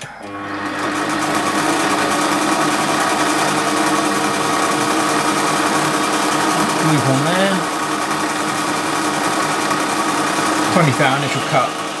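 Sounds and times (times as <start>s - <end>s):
metal lathe whining: 0.0s - 12.0s.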